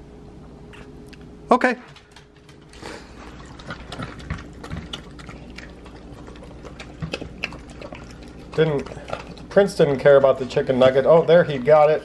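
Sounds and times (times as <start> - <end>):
dogs chewing and lapping food: 1.6 - 12.0.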